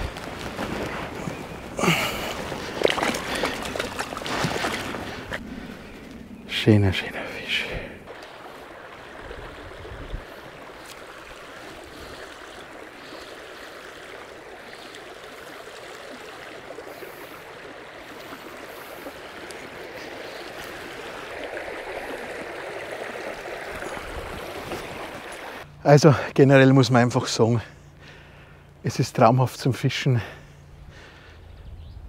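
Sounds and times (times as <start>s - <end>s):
brook water running: 0.0s - 31.4s.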